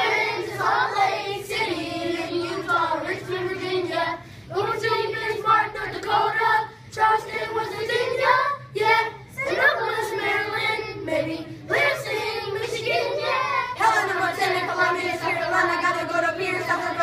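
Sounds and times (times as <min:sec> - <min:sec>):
children rapping in unison: 0:00.0 - 0:17.0.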